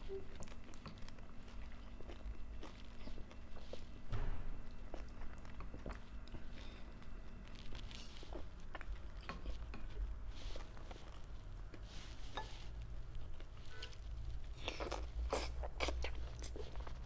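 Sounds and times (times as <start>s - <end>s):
person chewing: 0.0s - 4.0s, 4.6s - 17.0s.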